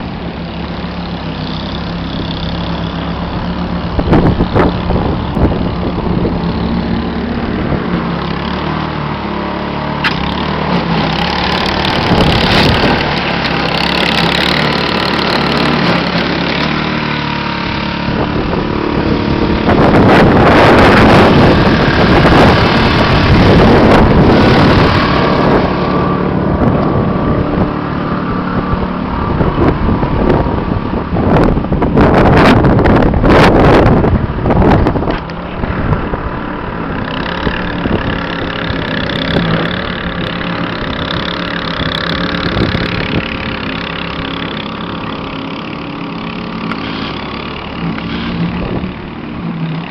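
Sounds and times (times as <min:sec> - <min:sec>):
outboard motor running: 0:00.0 - 0:49.9.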